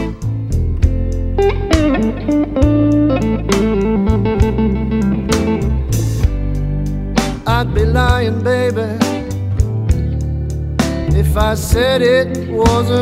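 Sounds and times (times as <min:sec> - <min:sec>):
bass: 0:00.0 - 0:13.0
electric guitar lead: 0:00.0 - 0:13.0.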